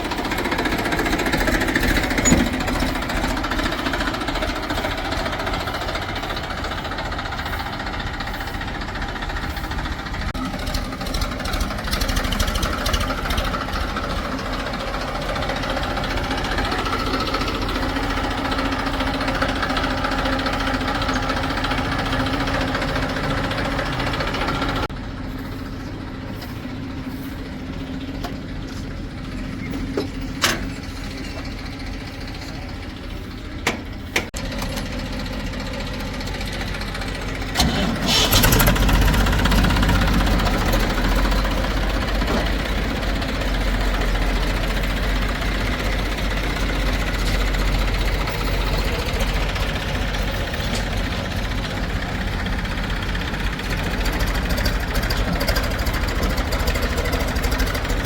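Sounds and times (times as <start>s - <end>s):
diesel machinery idling: 0.0s - 58.0s.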